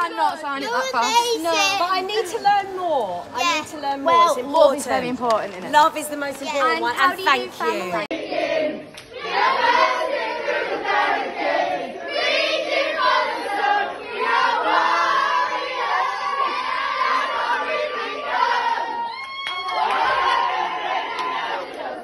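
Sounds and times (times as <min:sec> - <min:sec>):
crowd singing and chanting: 0:04.0 - 0:22.0.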